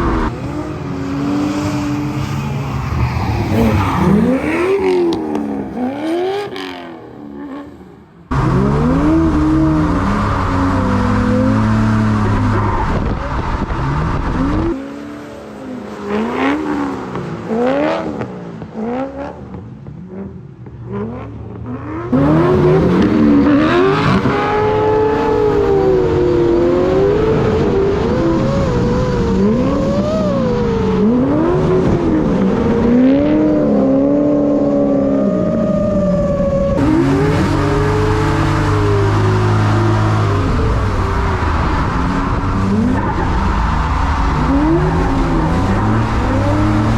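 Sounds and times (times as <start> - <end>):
car engines revving: 0.0 - 46.9.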